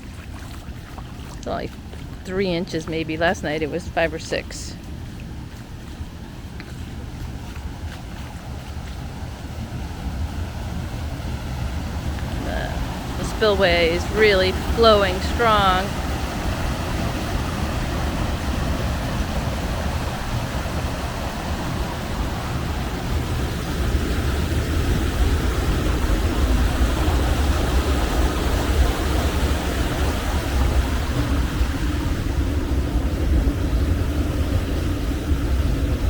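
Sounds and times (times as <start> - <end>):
floodwater rushing over spillway: 0.0 - 36.0.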